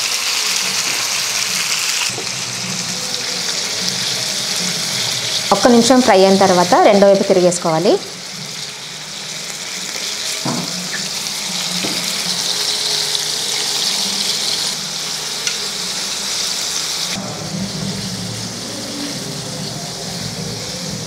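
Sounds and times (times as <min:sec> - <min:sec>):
oil sizzling in a pan: 0:00.0 - 0:21.0.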